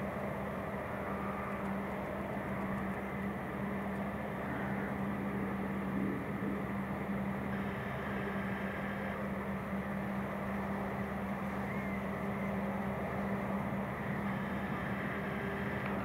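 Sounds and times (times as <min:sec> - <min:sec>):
forage harvester drone: 0:00.0 - 0:16.0
tractor engines running: 0:00.0 - 0:16.0.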